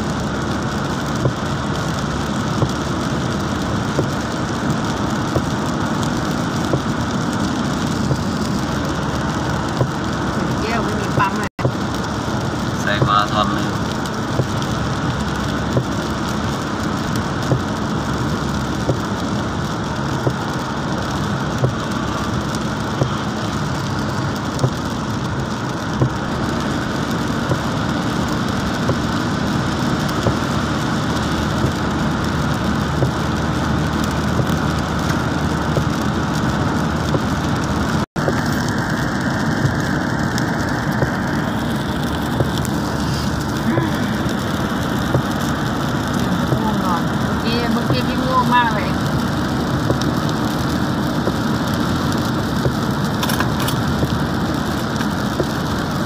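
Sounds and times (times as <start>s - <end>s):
rain on car roof: 0.0s - 56.0s
tyres on wet road: 0.0s - 56.0s.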